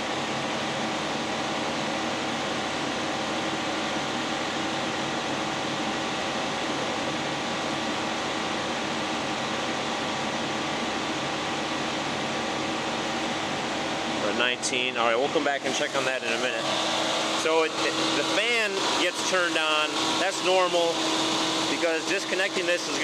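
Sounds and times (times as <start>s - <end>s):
engine cooling fan rushing: 0.0s - 23.0s.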